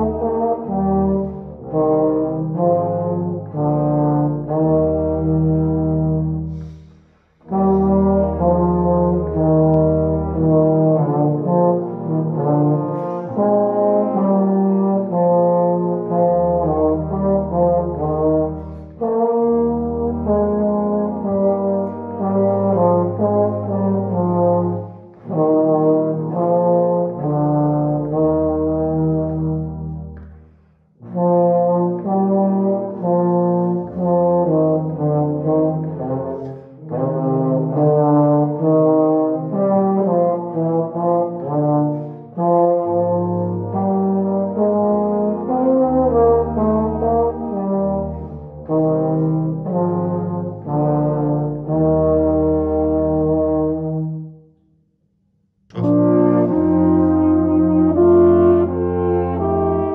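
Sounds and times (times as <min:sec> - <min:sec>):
tenor horn melody: 0:00.0 - 0:30.3, 0:31.0 - 0:54.4, 0:55.7 - 0:59.9.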